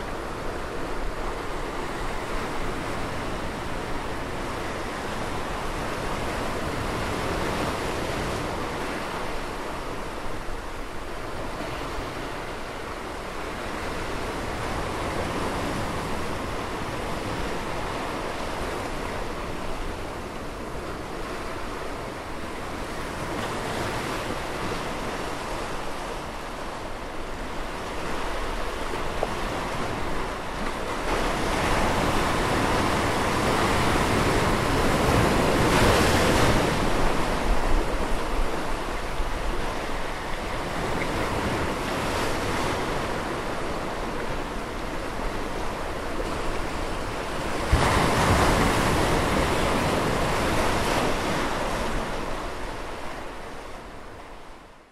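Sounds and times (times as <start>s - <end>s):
ocean surf churning in rock hole: 0.0s - 54.9s.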